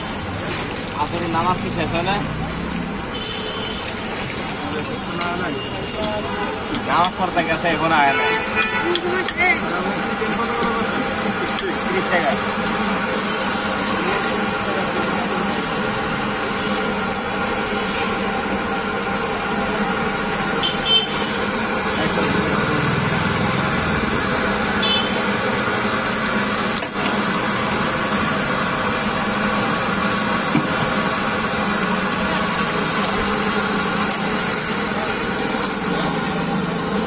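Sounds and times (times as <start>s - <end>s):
traffic running: 0.0s - 37.0s.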